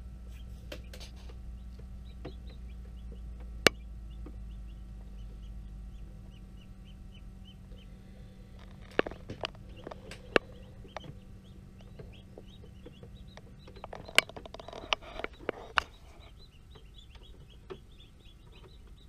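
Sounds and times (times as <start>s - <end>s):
incubator hum: 0.0s - 19.0s
chicks peeping: 0.2s - 19.0s.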